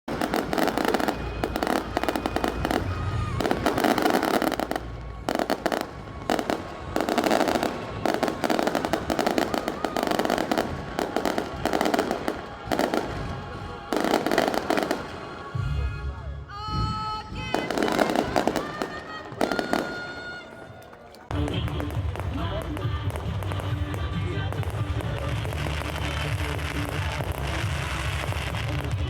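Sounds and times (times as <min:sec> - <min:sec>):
fireworks crackling and popping: 0:00.1 - 0:15.6, 0:17.4 - 0:29.0.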